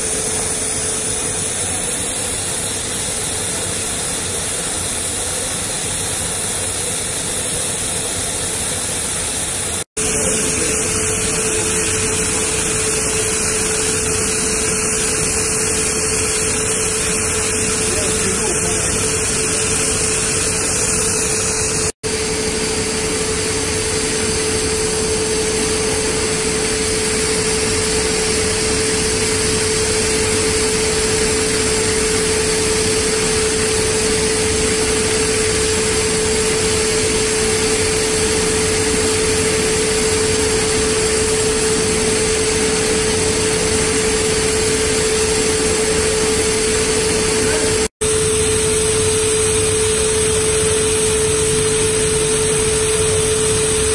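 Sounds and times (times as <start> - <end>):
overlock machine whine: 0.0 - 53.9.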